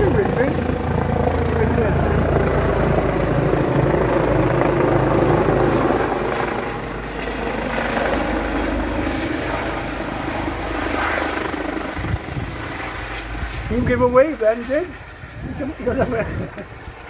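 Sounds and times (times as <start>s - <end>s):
helicopter rotor throb: 0.0s - 17.0s.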